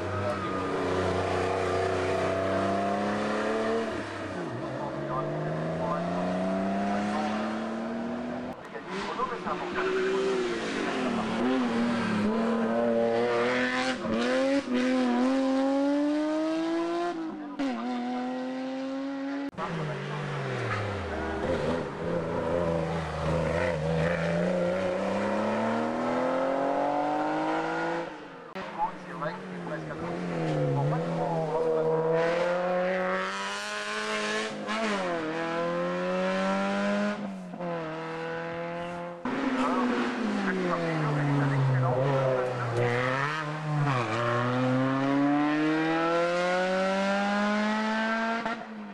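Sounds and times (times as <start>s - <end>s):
race car engine accelerating: 0.0s - 48.8s.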